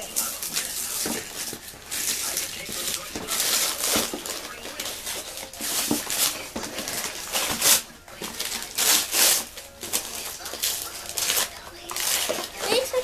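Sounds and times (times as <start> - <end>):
wrapping paper tearing and crinkling: 0.0 - 13.0.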